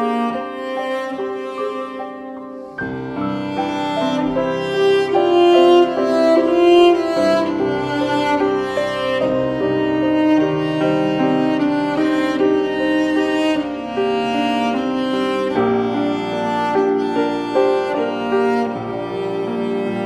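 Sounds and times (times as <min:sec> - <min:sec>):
violin melody: 0:00.0 - 0:20.0.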